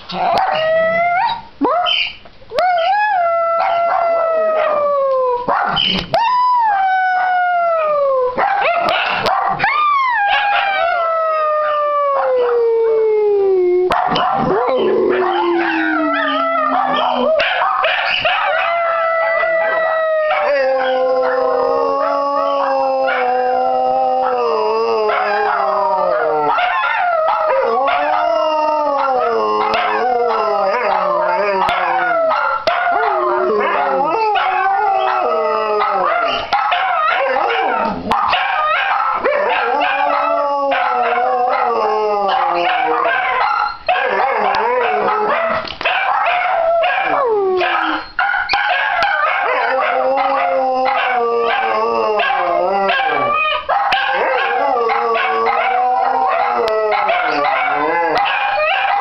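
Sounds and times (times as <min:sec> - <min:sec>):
dogs howling: 0:00.3 - 0:59.0.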